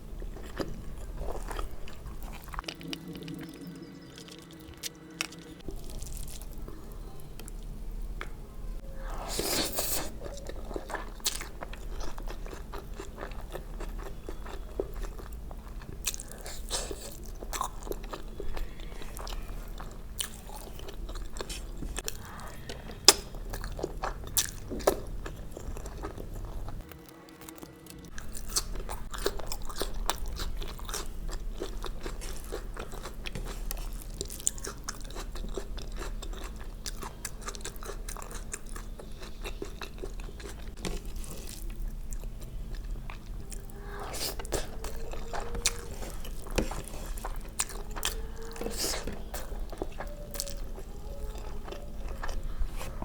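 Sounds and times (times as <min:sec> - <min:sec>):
wet chewing and crunching: 0:00.0 - 0:08.4, 0:09.0 - 0:53.0.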